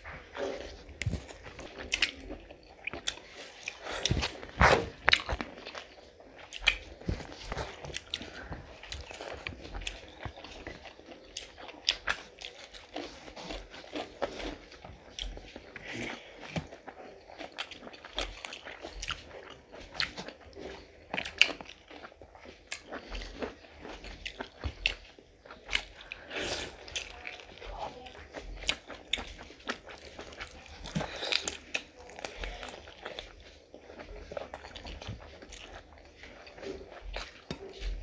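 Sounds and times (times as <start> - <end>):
wet chewing: 0.0 - 38.0.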